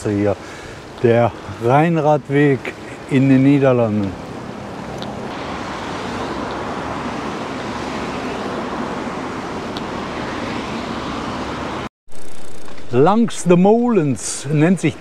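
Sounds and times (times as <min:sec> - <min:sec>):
road traffic rush: 0:00.0 - 0:15.0.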